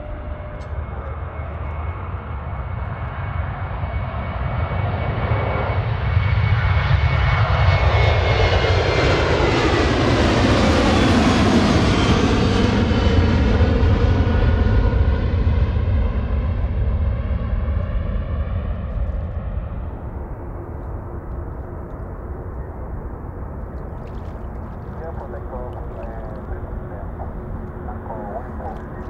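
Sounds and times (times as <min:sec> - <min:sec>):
jet engines roaring: 0:00.0 - 0:17.6, 0:18.2 - 0:29.0.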